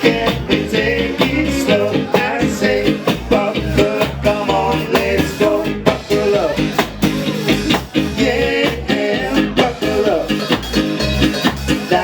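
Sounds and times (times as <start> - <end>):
acoustic ska band playing: 0.0 - 12.0.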